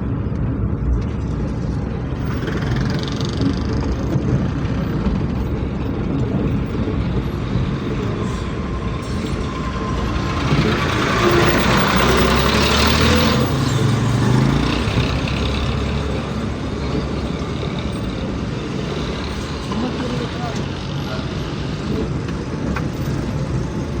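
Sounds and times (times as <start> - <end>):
rushing noise: 0.0 - 24.0
vehicle engine rumbling: 0.0 - 24.0.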